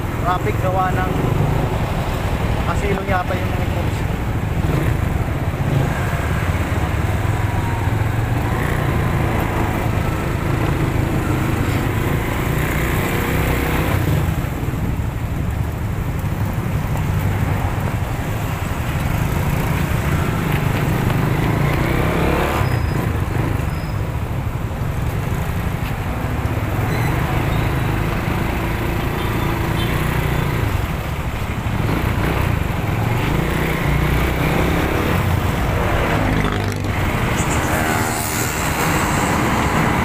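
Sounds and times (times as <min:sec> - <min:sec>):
road and traffic noise: 0:00.0 - 0:40.0.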